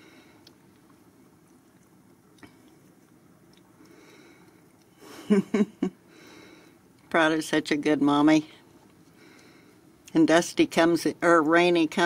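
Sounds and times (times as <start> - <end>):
faint low background sound: 0.0 - 12.0.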